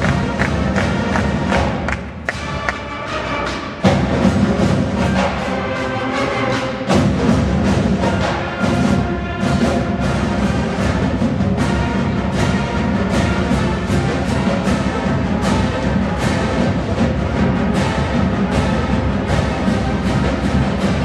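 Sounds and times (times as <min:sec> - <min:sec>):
drum beats: 0:00.0 - 0:21.0
marching band playing: 0:00.0 - 0:21.0.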